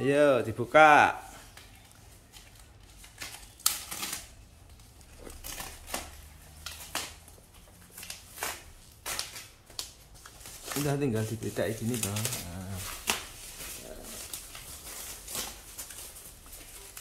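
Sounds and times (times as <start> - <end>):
plastic wrapping crinkling: 1.3 - 17.0.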